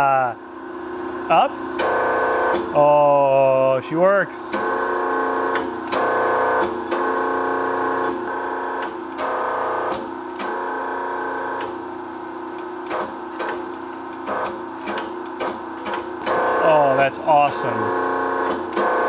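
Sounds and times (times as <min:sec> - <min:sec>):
punch press electric hum: 0:00.0 - 0:19.0.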